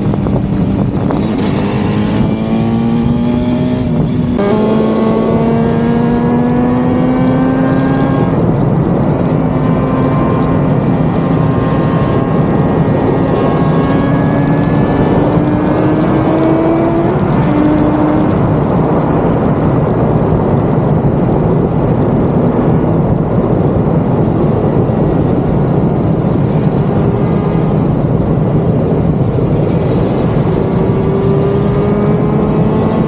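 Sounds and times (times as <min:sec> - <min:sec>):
motorcycle two-stroke engine running: 0:00.0 - 0:18.3, 0:23.8 - 0:33.0
wind rushing over microphone: 0:00.0 - 0:33.0.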